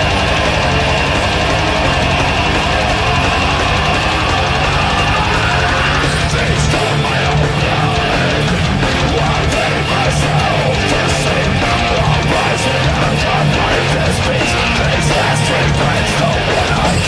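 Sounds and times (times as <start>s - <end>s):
heavy metal guitar riff: 0.0s - 17.0s.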